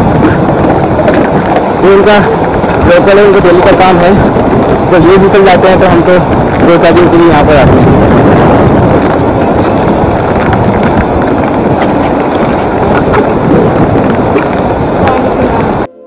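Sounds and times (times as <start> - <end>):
river rushing: 0.0 - 15.9
wind buffeting microphone: 0.0 - 15.9.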